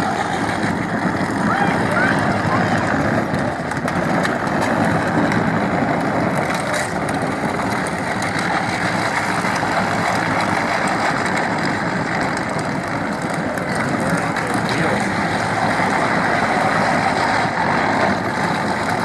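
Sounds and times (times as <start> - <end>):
plastic wheels crunching over ground: 0.0 - 19.0.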